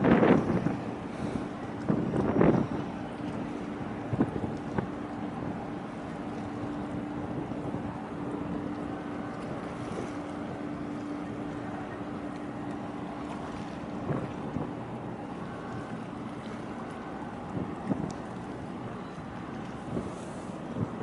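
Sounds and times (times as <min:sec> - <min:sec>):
ship engine hum: 0:00.0 - 0:21.0
wind buffeting microphone: 0:00.0 - 0:21.0.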